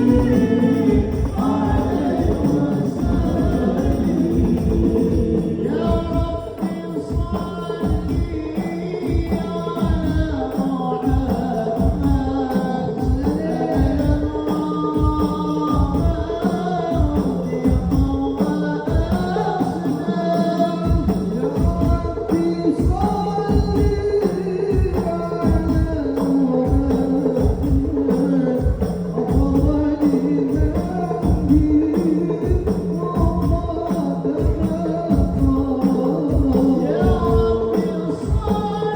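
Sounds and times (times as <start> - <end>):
hand drums beating: 0.0 - 38.9
man singing: 0.0 - 38.9.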